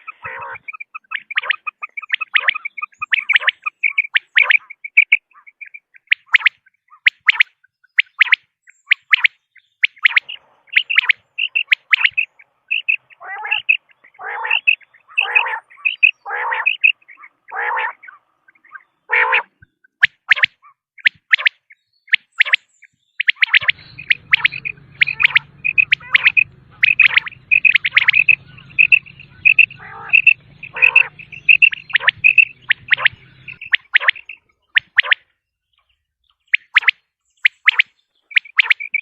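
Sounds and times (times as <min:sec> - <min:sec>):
quail calling: 0:00.0 - 0:35.3, 0:36.5 - 0:39.0.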